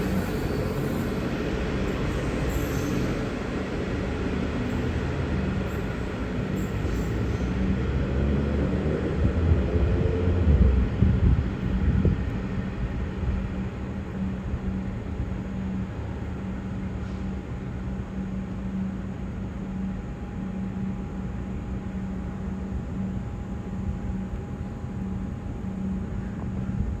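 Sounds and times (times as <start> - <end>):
train running low drone: 0.0 - 27.0.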